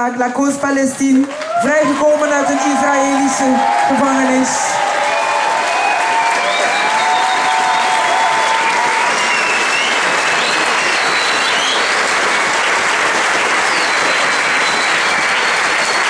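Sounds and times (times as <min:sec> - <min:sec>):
crowd applauding: 0:01.2 - 0:16.0.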